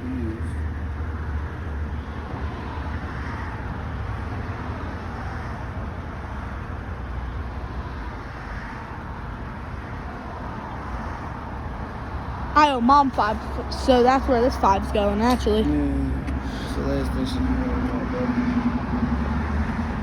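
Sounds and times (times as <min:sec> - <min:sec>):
road and engine rumble in car: 0:00.0 - 0:20.0.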